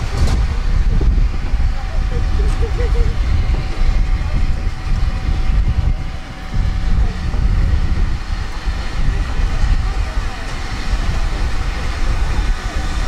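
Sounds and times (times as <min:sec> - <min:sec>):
heavy low rumble: 0:00.0 - 0:13.0
thin steady whine: 0:00.0 - 0:13.0.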